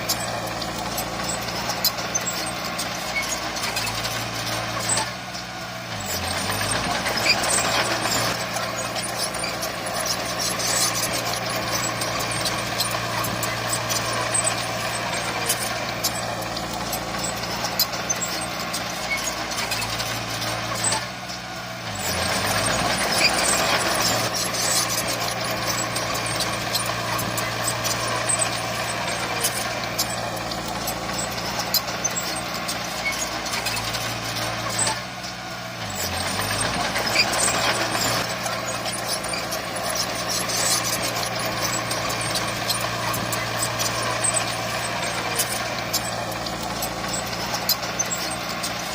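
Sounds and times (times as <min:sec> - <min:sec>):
clatter and clanking: 0:00.0 - 0:48.9
heavy diesel machinery running: 0:00.0 - 0:48.9.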